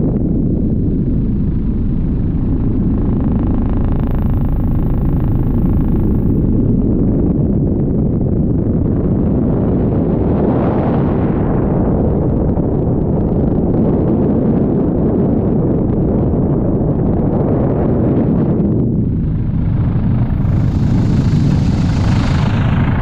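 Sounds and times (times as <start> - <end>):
helicopter rotor and engine noise: 0.0 - 23.0
wind buffeting microphone: 0.0 - 23.0.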